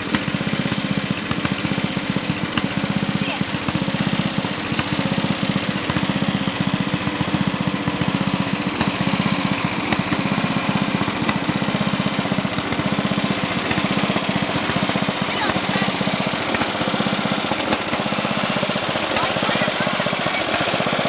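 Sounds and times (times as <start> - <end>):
lawnmower engine running: 0.0 - 21.0.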